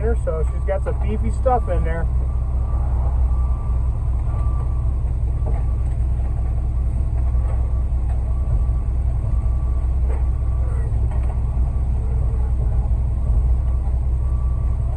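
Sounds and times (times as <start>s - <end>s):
truck engine running steadily: 0.0s - 14.9s.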